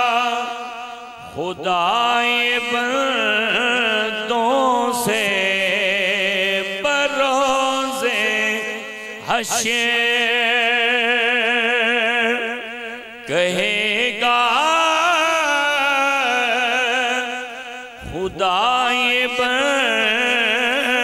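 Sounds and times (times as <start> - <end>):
person chanting with vibrato: 0.0 - 21.0.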